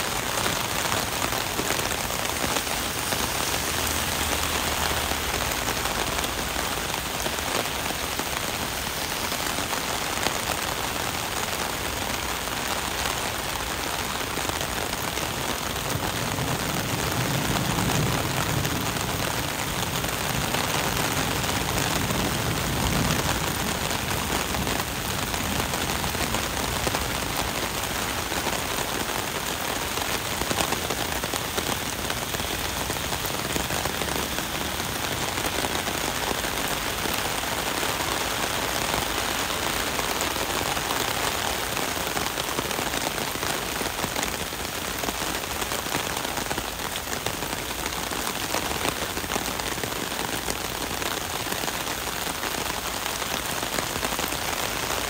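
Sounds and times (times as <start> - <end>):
heavy rain on pavement: 0.0 - 55.0.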